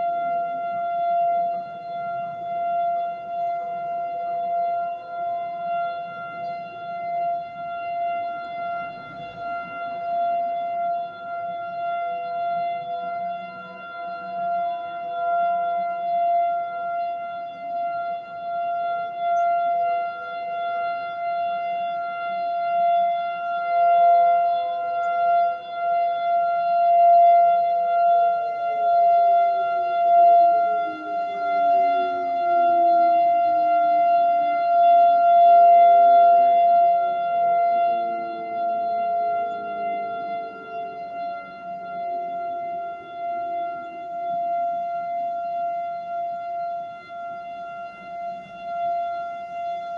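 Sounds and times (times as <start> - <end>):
lower siren tone sliding down: 0.0 - 49.9
warning siren steady tone: 0.0 - 49.9.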